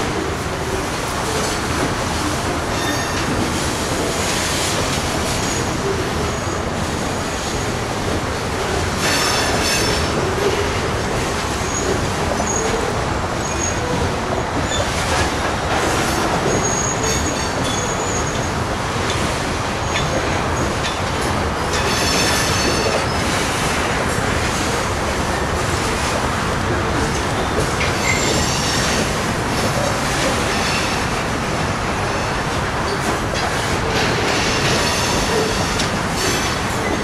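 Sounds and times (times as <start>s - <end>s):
freight train wheels on rails: 0.0s - 37.0s.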